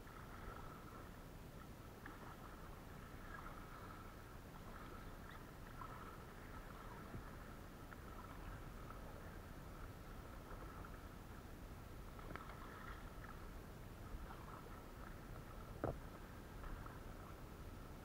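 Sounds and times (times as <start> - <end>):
paddle strokes in water: 0.0 - 18.0.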